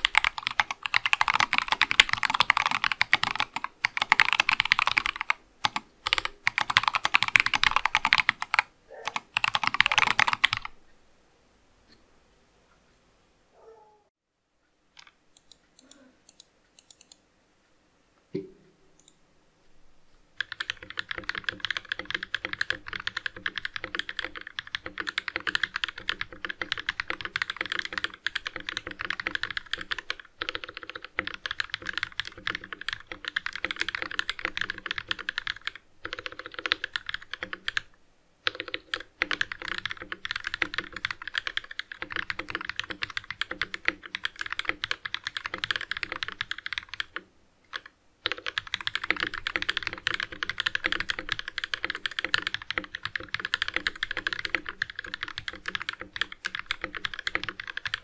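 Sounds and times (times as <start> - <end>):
fast mechanical keyboard typing: 0.0 - 10.7, 20.4 - 58.0.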